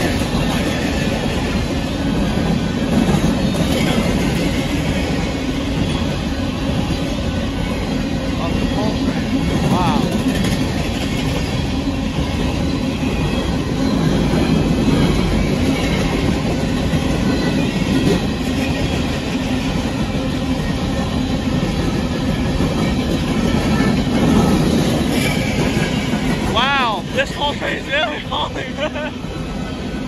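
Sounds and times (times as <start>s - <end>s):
freight cars rolling on rails: 0.0s - 30.0s.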